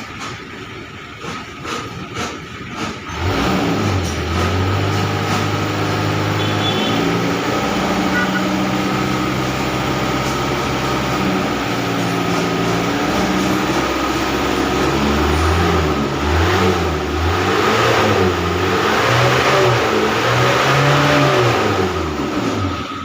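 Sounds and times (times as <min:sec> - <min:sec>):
engine revving: 0:03.1 - 0:23.0.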